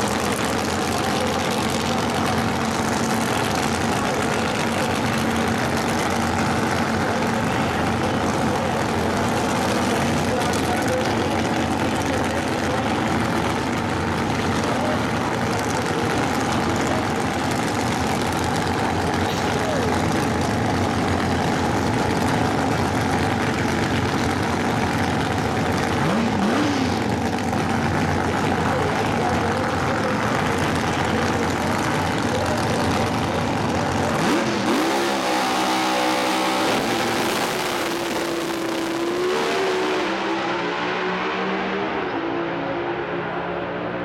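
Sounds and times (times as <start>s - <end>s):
drag racing engines revving: 0.0s - 44.0s.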